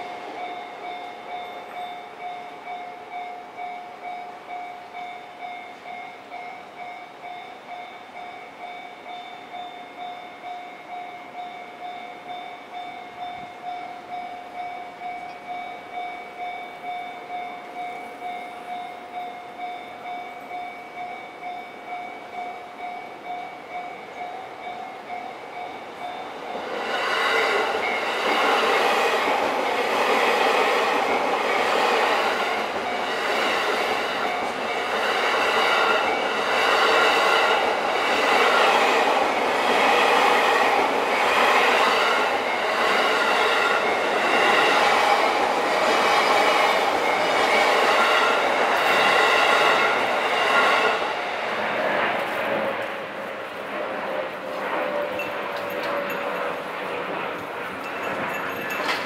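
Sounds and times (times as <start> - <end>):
train passing with rumble: 0.0 - 59.0.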